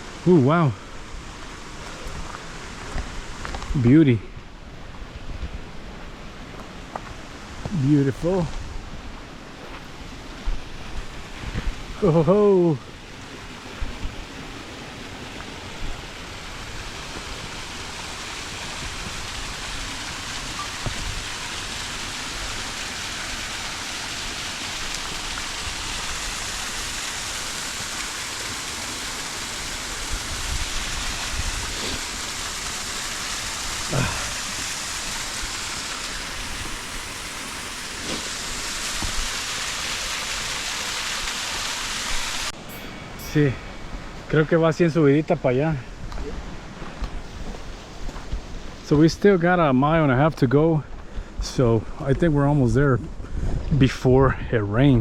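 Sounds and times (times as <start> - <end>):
water rushing in cascade: 0.0 - 55.0.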